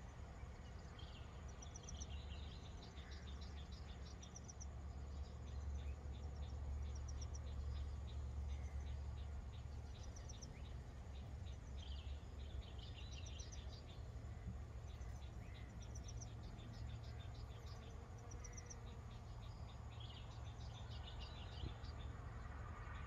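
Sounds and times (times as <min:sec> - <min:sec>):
insects chirping: 0:00.0 - 0:23.0
bird chirps: 0:00.4 - 0:22.2.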